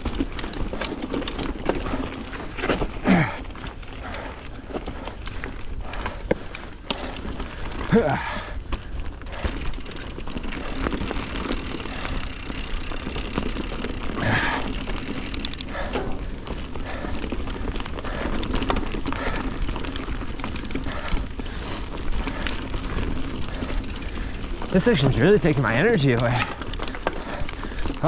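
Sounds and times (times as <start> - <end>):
bike rattling and knocking: 0.0 - 28.0
bike tyres on dirt trail: 0.0 - 28.0.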